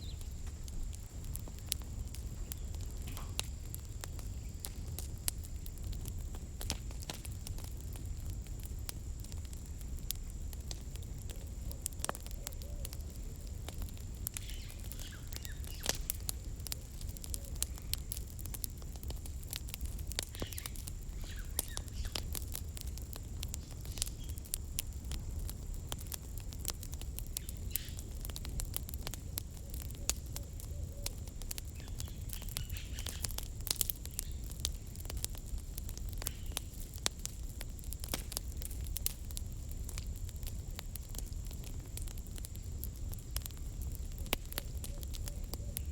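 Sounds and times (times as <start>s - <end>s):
sharp pops and snaps: 0.0s - 8.2s, 10.1s - 25.3s, 25.9s - 45.8s
campfire crackling: 0.0s - 45.9s
low rumble of flames: 0.0s - 45.9s.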